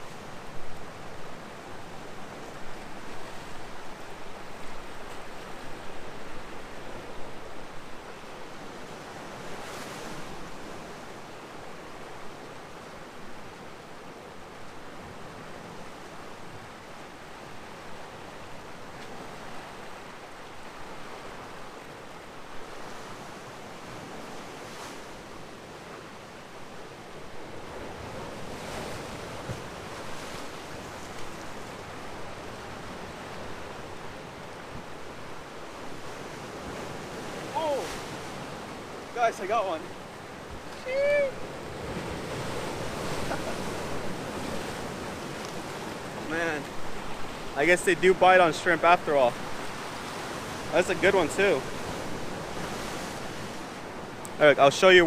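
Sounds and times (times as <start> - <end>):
ocean surf on rocks: 0.0 - 55.0.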